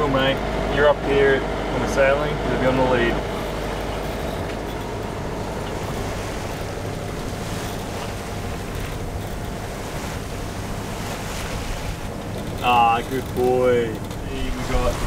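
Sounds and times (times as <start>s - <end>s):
water rushing along hull: 0.0s - 15.0s.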